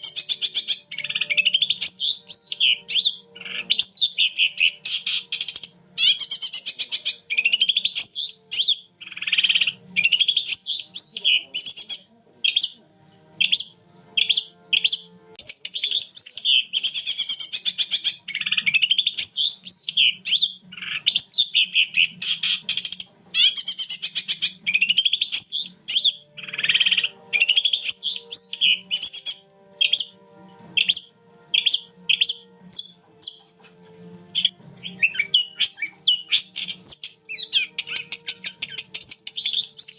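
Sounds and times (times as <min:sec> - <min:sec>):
shrike chattering and trilling: 0:00.0 - 0:12.8, 0:13.4 - 0:30.2, 0:30.8 - 0:33.8, 0:34.4 - 0:39.9.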